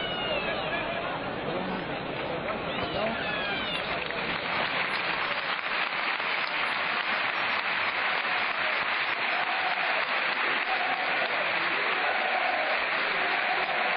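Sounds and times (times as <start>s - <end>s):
stadium crowd applauding: 0.0s - 13.9s.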